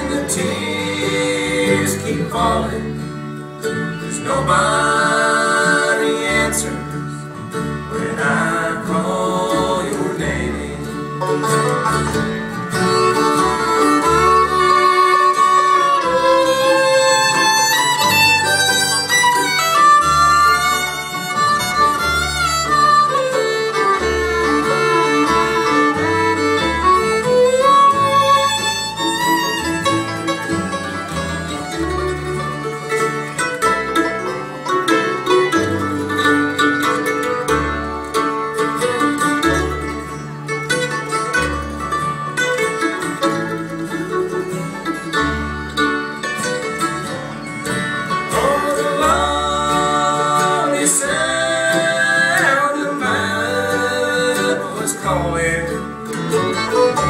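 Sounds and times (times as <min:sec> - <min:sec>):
acoustic guitar: 0:00.0 - 0:57.0
fiddle melody: 0:00.0 - 0:57.0
upright bass: 0:00.0 - 0:57.0.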